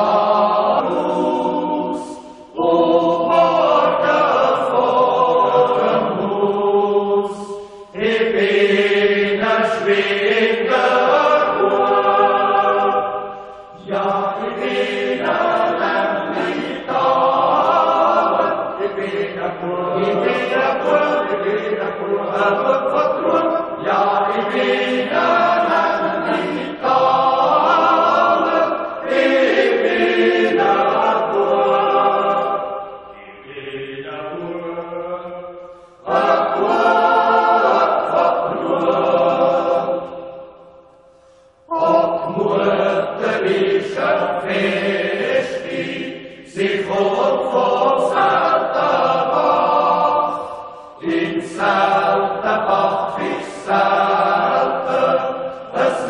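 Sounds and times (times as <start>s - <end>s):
choir singing sustained chords: 0.0s - 56.0s.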